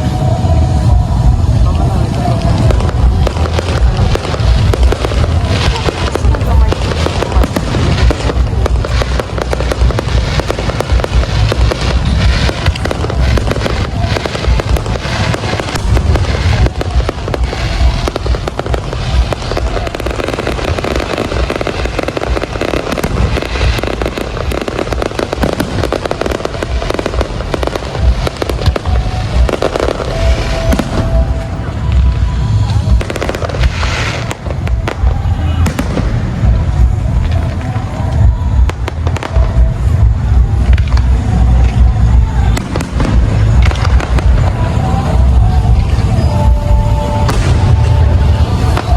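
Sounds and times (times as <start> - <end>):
fireworks booms and crackles: 0.0 - 48.9
music playing: 0.0 - 48.9.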